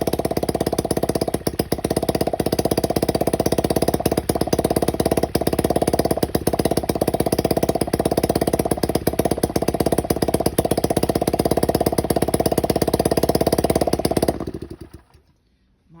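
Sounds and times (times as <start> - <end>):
small motorcycle engine running: 0.0 - 15.4.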